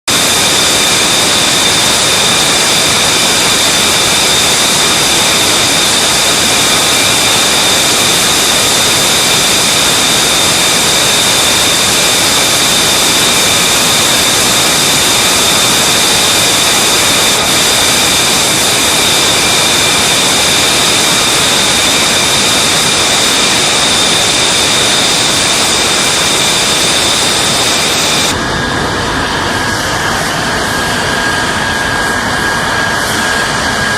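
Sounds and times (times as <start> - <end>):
jet engine running loud: 0.0 - 33.9.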